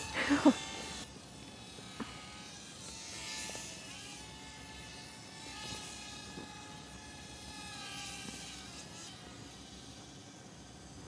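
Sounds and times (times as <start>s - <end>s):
rc plane electric motor whine: 0.0s - 11.0s.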